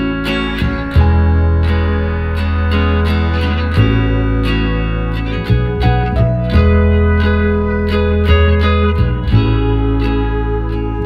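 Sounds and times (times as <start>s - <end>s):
instrumental music with plucked notes: 0.0s - 11.0s.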